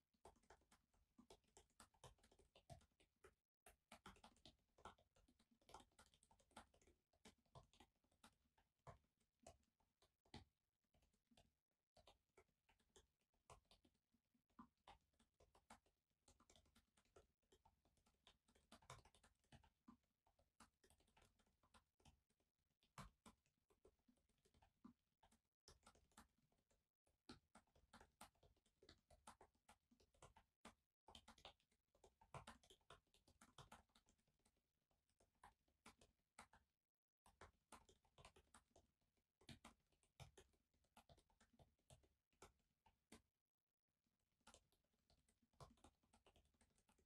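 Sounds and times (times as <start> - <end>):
typing on laptop keyboard: 0.2 - 43.4, 44.2 - 47.0.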